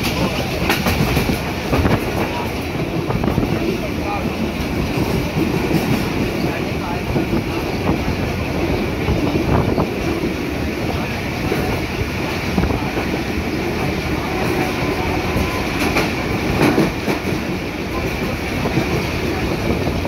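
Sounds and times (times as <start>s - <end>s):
sharp track clacks: 0.0s - 10.6s, 11.2s - 20.0s
train wheels rumbling and rattling: 0.0s - 20.0s.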